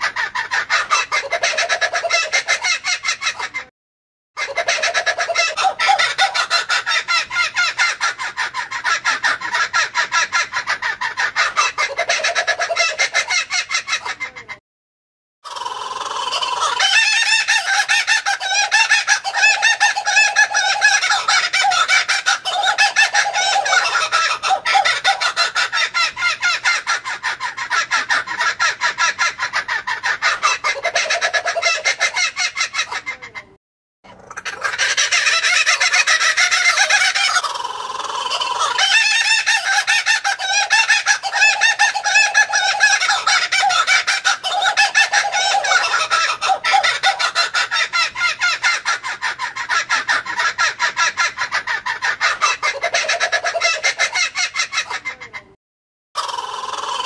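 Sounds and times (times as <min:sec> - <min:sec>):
kookaburra laughing call: 0:00.0 - 0:03.7, 0:04.4 - 0:14.6, 0:15.5 - 0:33.5, 0:34.1 - 0:55.5, 0:56.2 - 0:57.0.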